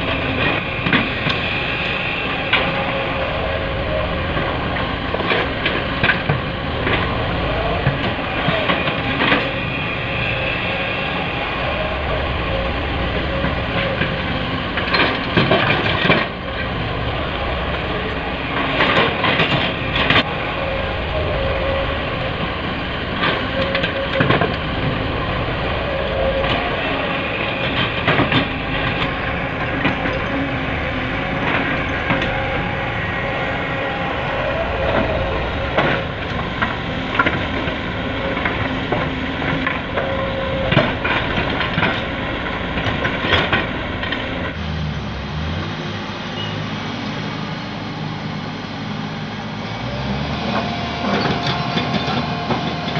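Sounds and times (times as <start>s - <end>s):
diesel machinery running: 0.0s - 52.9s.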